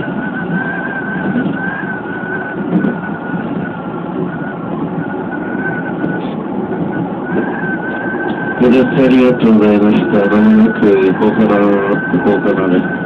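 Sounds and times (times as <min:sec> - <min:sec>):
high whine: 0:00.0 - 0:13.0
train wheels rumbling on rail: 0:00.0 - 0:13.0.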